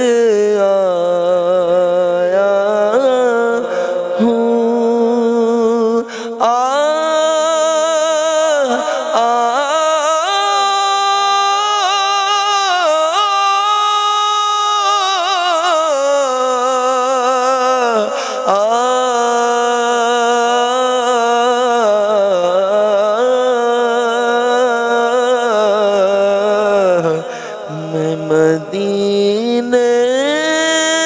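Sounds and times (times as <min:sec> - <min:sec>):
man singing unaccompanied: 0:00.0 - 0:31.0.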